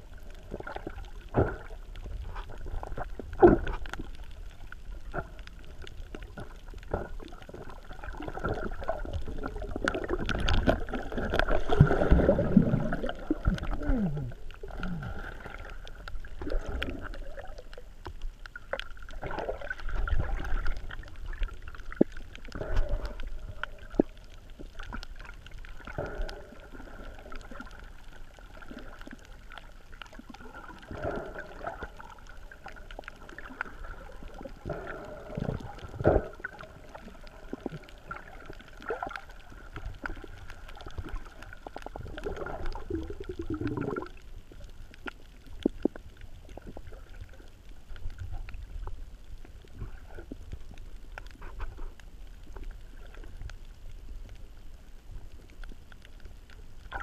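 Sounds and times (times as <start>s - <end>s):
faint underwater clicks: 0.0s - 57.0s
underwater water movement: 0.0s - 57.0s.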